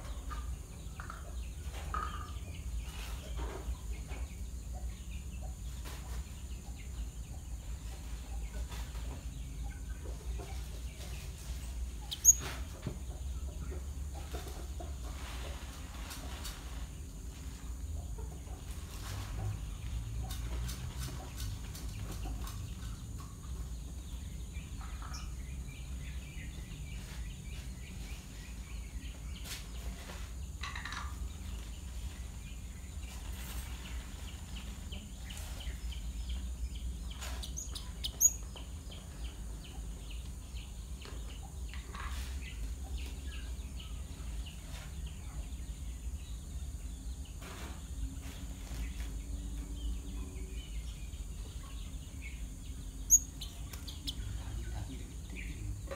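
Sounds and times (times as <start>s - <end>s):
sparrows chirping: 0.0s - 55.9s.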